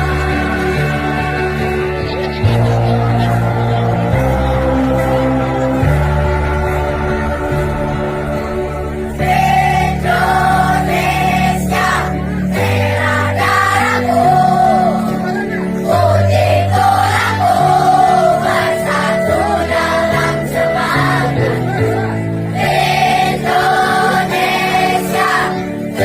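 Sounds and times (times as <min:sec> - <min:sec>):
choir singing in unison: 0:00.0 - 0:02.2, 0:04.3 - 0:26.0
electronic keyboard chords: 0:00.0 - 0:26.0.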